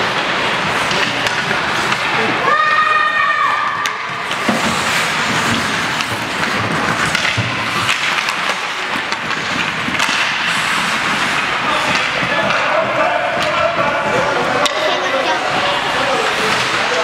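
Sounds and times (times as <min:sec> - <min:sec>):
hockey sticks and puck clacking: 0:00.0 - 0:17.0
skates scraping on ice: 0:00.0 - 0:17.0.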